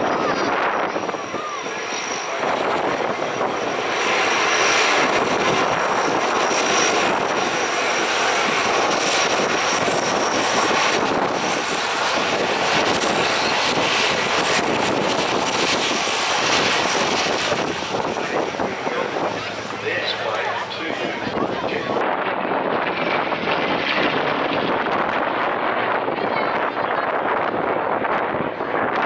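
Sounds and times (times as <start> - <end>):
turboprop engines running loud: 0.0 - 29.0.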